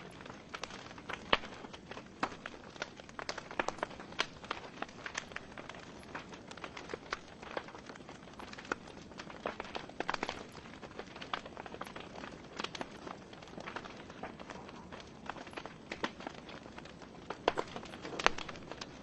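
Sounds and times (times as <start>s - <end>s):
fire hissing softly: 0.0s - 19.0s
wood fire crackling and popping: 0.0s - 19.0s.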